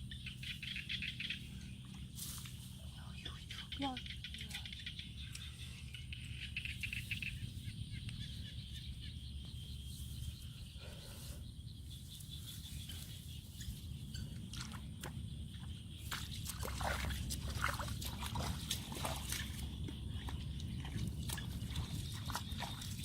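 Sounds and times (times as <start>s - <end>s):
birds chirping: 0.0s - 23.0s
low steady hum: 0.0s - 23.0s.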